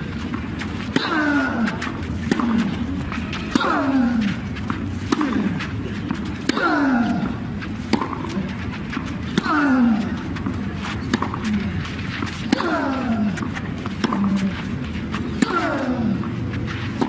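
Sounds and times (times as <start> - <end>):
racket striking ball: 0.3 - 14.6, 15.2 - 16.3.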